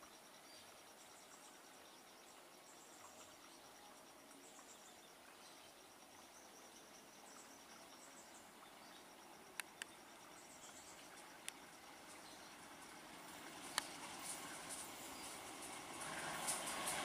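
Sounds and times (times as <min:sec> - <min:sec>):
background hiss: 0:00.0 - 0:17.0
insect chirping trill: 0:00.0 - 0:17.0.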